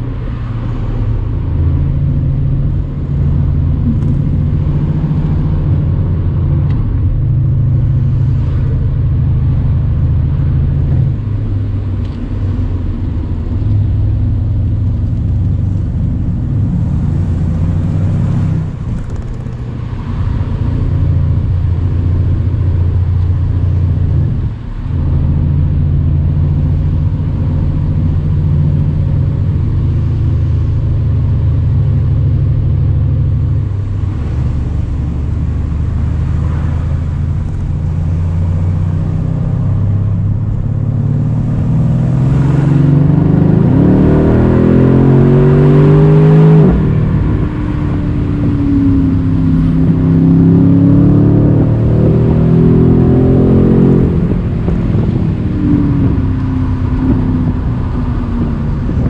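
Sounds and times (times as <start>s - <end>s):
car engine deep rumble: 0.0s - 59.0s.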